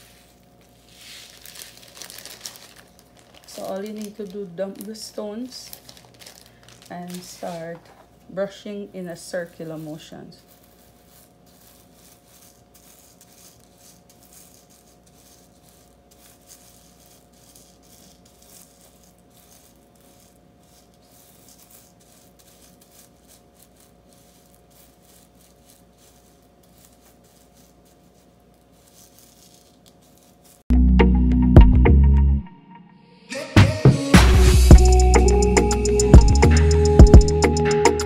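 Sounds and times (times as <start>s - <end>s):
rhinestones rustling under brush: 0.0s - 30.7s.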